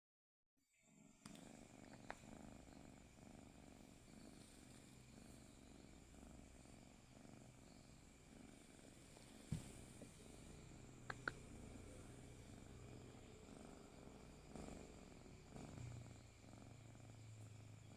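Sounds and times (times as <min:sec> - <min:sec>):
cat purring: 0:00.7 - 0:17.9.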